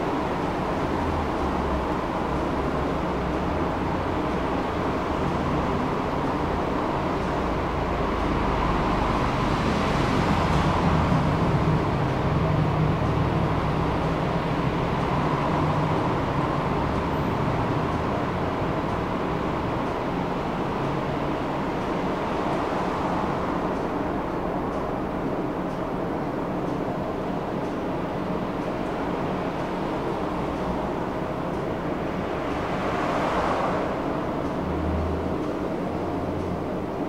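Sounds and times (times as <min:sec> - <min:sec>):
tram wheels rumbling on rails: 0:00.0 - 0:37.0.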